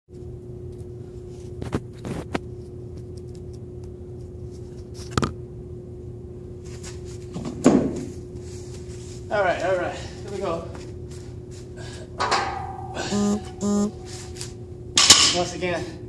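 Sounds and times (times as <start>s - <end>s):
low room hum: 0.1s - 16.0s.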